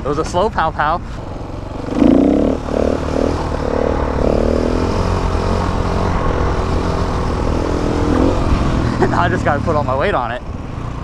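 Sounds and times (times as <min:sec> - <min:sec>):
motorcycle engine revving: 0:01.1 - 0:11.0.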